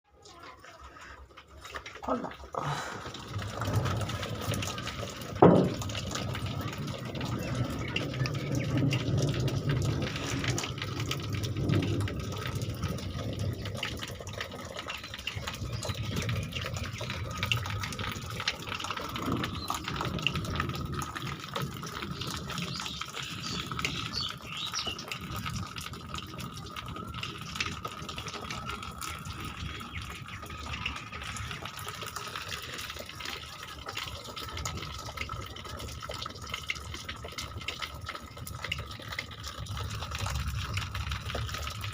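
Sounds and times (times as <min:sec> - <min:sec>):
water running and splashing: 0:00.1 - 0:41.9.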